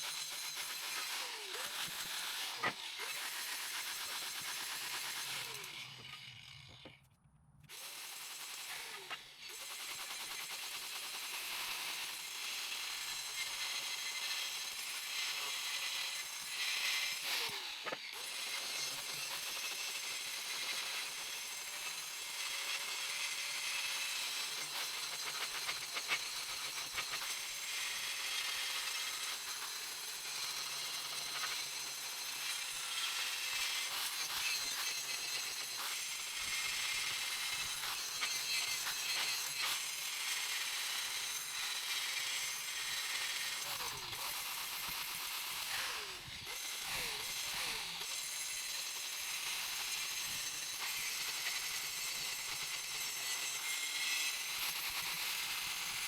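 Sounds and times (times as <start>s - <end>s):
angle grinder sanding rusty steel: 0.0s - 6.9s, 13.0s - 55.2s.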